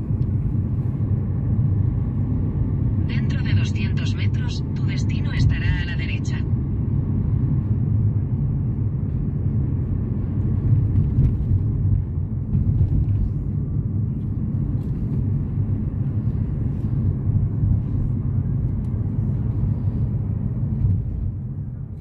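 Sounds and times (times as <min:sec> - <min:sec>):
road and engine rumble inside car: 0:00.0 - 0:22.0.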